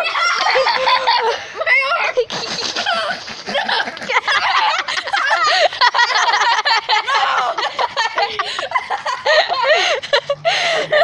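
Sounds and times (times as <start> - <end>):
people laughing hard: 0.0 - 1.9, 2.7 - 11.0.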